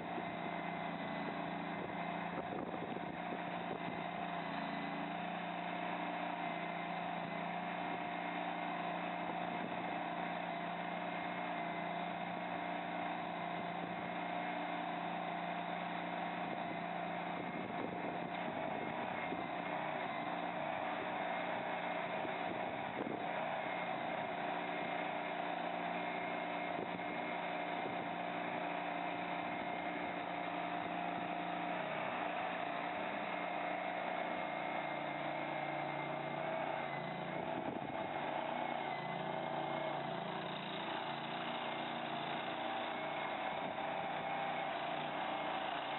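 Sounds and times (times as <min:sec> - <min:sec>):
hydraulic whine: 0:00.0 - 0:45.9
loader engine running: 0:00.0 - 0:45.9.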